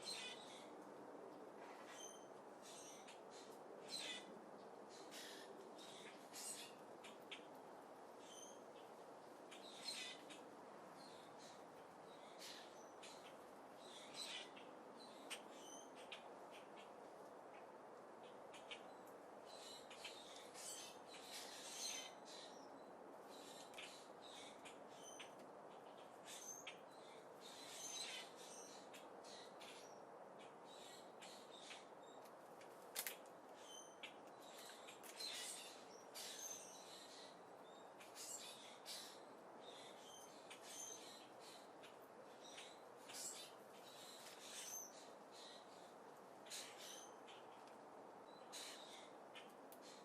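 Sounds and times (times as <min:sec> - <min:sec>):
steady background hiss: 0:00.0 - 0:50.0
faint birds chirping: 0:01.8 - 0:50.0.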